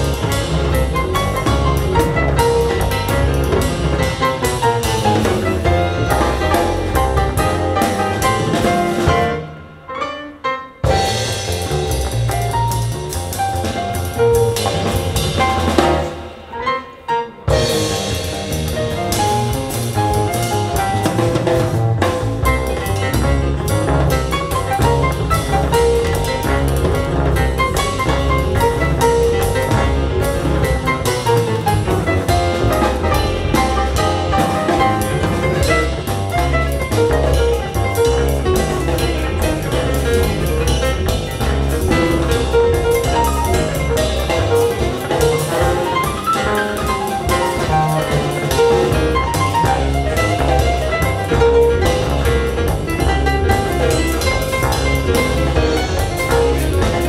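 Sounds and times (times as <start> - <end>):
pulsing bass: 0.0 - 9.4, 10.9 - 16.2, 17.6 - 57.0
jazz over loudspeakers: 0.0 - 57.0.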